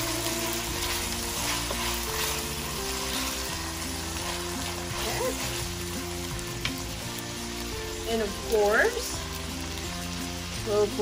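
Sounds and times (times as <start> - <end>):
background music with held notes: 0.0 - 11.0
meat sizzling in a skillet: 0.0 - 11.0.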